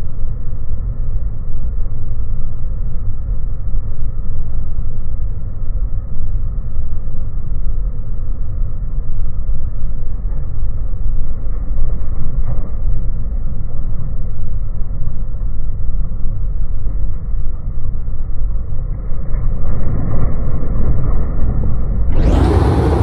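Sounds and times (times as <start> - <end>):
slowed-down aircraft engine rumble: 0.0 - 23.0.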